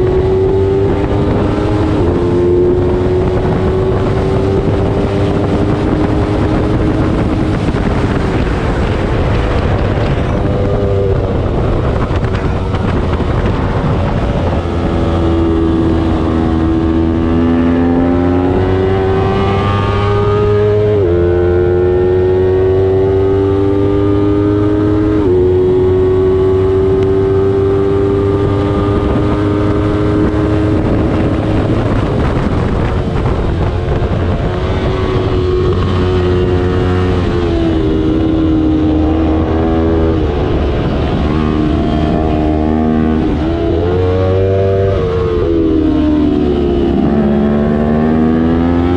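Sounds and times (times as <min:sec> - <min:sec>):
motorcycle engine revving: 0:00.0 - 0:48.9
wind and road noise: 0:00.0 - 0:48.9.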